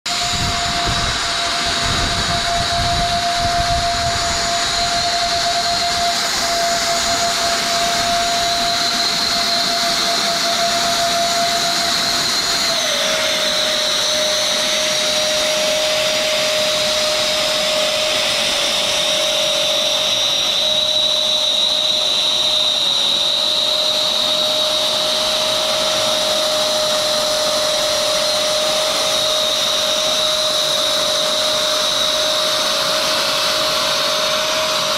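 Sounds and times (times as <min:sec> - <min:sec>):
robot fan whine: 0:00.1 - 0:34.9
rushing hiss: 0:00.1 - 0:34.9.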